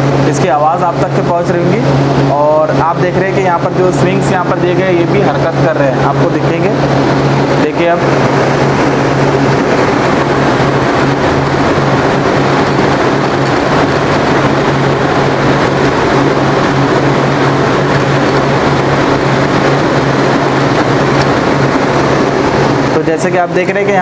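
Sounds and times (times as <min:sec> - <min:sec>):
fan air whoosh: 0:00.0 - 0:24.0
low motor hum: 0:00.0 - 0:24.0.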